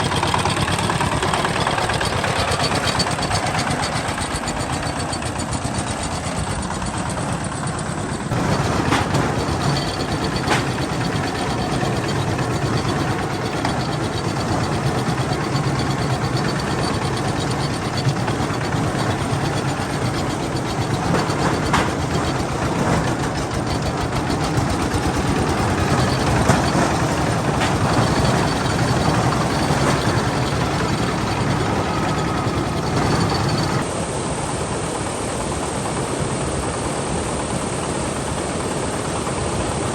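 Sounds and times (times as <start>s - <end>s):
sharp clacks: 0.0s - 33.9s
tractor engine running: 0.0s - 33.9s.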